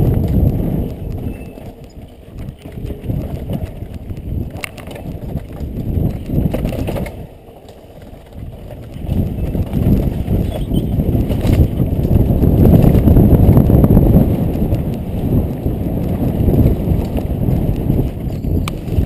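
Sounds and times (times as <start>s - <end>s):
bike rattling over bumps: 0.0s - 19.0s
bike tyres rumbling on dirt: 0.0s - 19.0s
wind on microphone: 0.0s - 19.0s.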